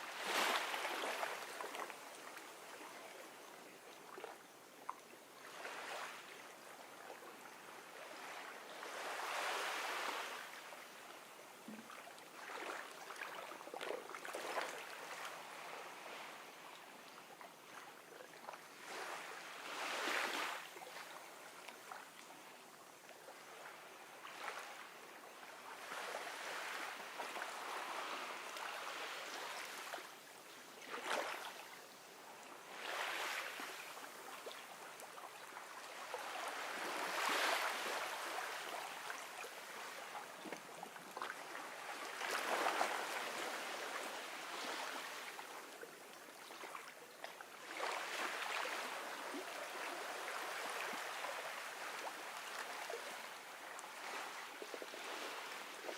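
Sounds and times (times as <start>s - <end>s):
small waves breaking on beach: 0.0s - 55.9s.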